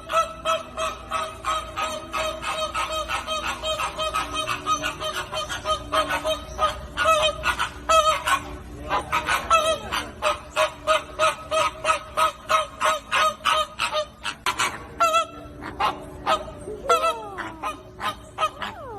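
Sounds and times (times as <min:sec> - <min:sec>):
flamingos honking: 0:00.0 - 0:18.9.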